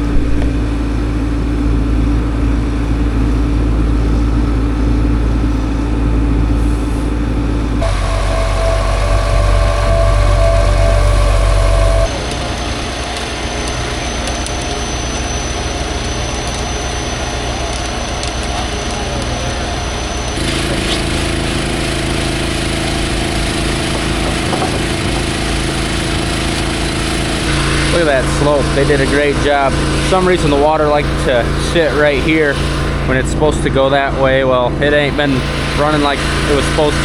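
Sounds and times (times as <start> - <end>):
engines and machinery running: 0.0 - 37.0.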